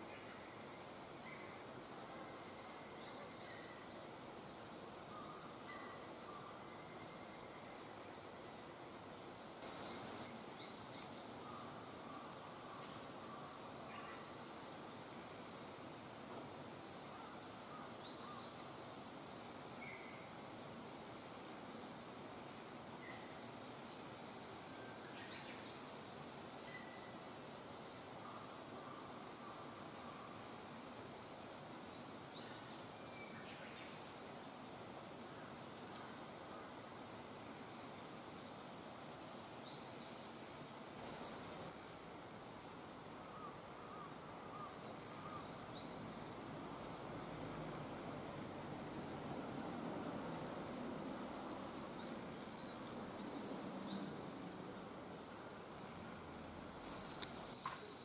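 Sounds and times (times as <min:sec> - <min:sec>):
faint outdoor background hiss: 0:00.0 - 0:58.0
small bird chirping: 0:00.2 - 0:58.0.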